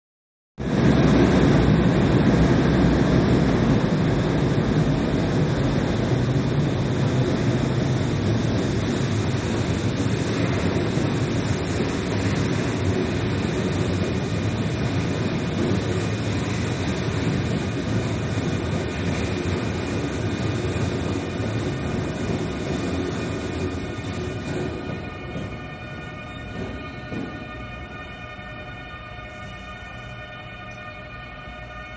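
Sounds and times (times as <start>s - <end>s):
train wheels rumbling on rails: 0.6s - 31.9s
thin high steady tones: 6.0s - 31.9s.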